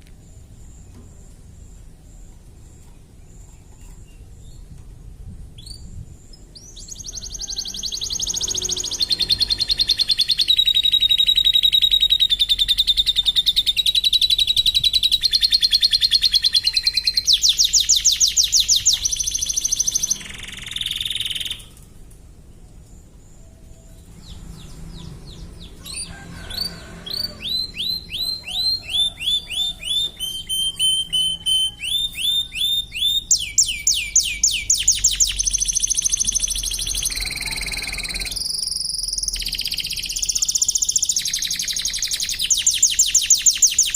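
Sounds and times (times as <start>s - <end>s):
canary singing trills: 5.5s - 21.8s, 22.5s - 43.9s.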